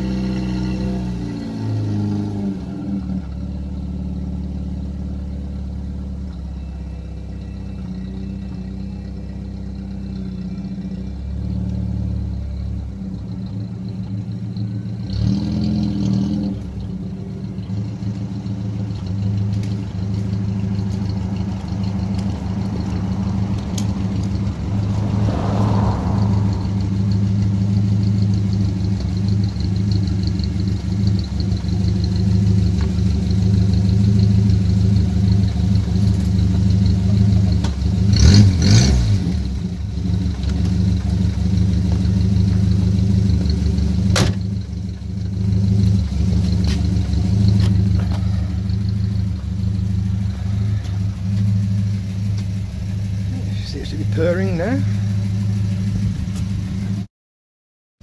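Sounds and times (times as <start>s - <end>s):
car engine running at low revs: 0.0s - 57.1s.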